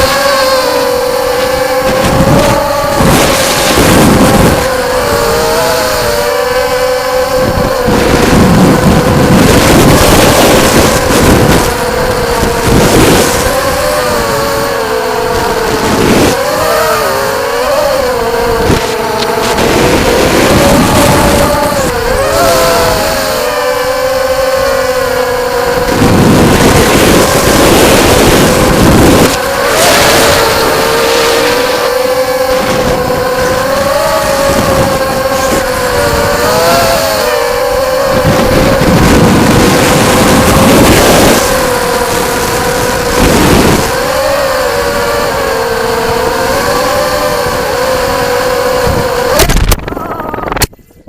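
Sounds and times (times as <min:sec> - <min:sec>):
quadcopter motors whining: 0:00.0 - 0:51.0
rushing noise of drones flying past: 0:00.0 - 0:51.0.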